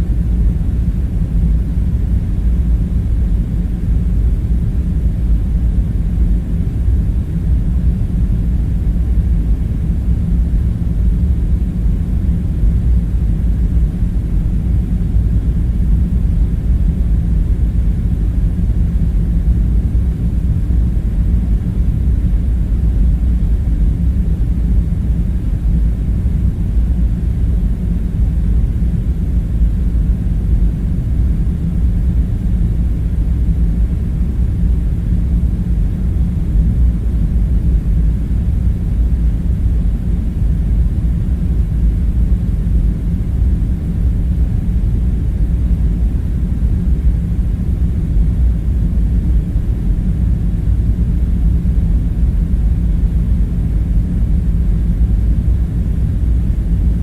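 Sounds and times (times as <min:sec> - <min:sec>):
faint hum: 0:00.0 - 0:57.0
low machinery rumble: 0:00.0 - 0:57.0.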